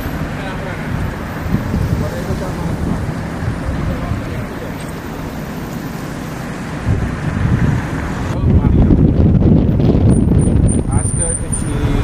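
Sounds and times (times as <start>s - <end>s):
road and traffic rumble: 0.0s - 12.0s.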